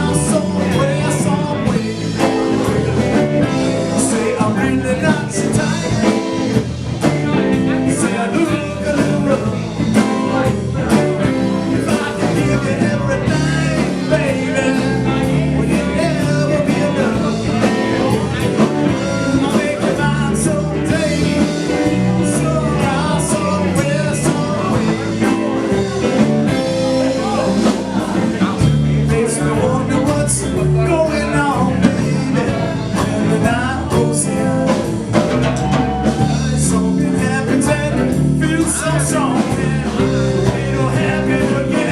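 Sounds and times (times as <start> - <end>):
live blues band playing: 0.0 - 41.9.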